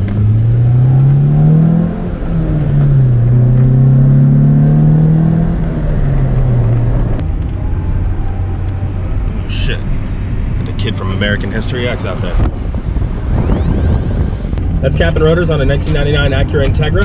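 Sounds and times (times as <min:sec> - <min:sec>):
car engine heard from cabin: 0:00.0 - 0:17.0.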